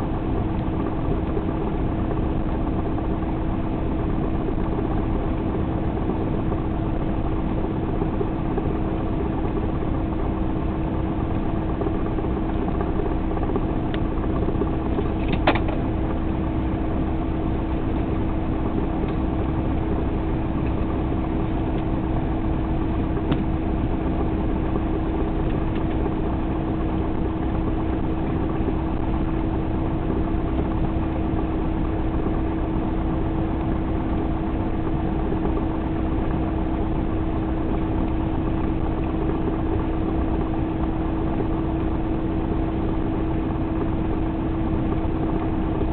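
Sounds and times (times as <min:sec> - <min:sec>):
constant hum: 0:00.0 - 0:45.9
plane engine and propeller drone: 0:00.0 - 0:45.9.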